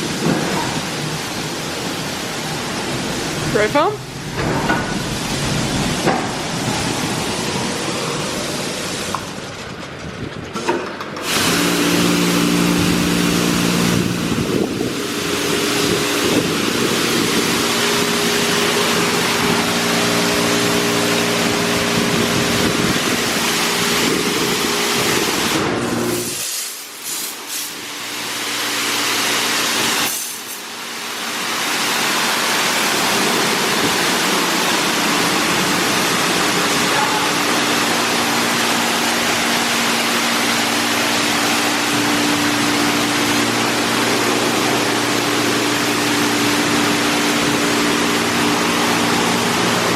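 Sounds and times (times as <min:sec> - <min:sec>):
hum of pumps and motors: 0:00.0 - 0:49.9
water jets spraying a car: 0:00.0 - 0:49.9.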